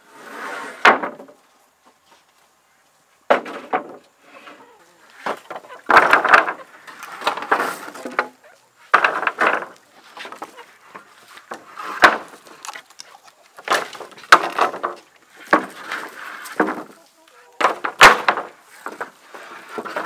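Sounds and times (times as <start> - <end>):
wooden planks clattering: 0.7 - 1.4, 3.3 - 20.0.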